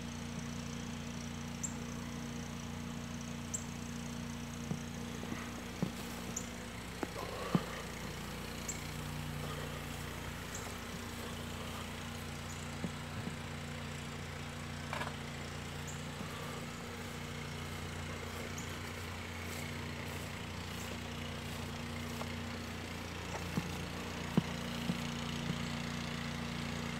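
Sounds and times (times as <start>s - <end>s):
small engine droning: 0.0s - 26.9s.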